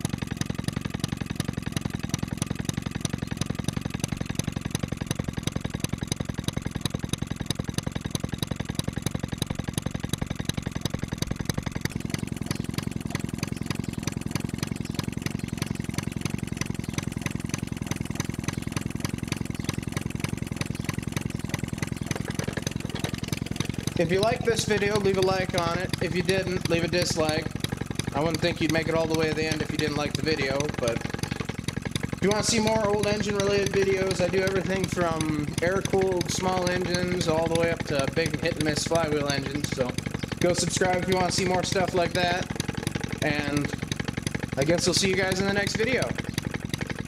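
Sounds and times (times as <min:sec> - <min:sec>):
old engine firing rhythmically: 0:00.0 - 0:47.0.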